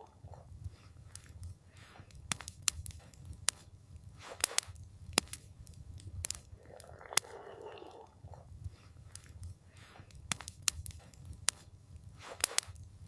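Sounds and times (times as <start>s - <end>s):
campfire crackling: 0.0s - 13.0s
soft wind: 0.0s - 13.0s.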